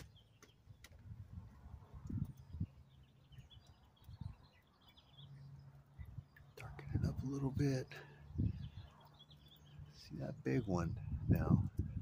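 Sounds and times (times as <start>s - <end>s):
faint birds chirping: 0.0s - 12.0s
wind buffeting microphone: 0.7s - 4.6s, 6.0s - 12.0s.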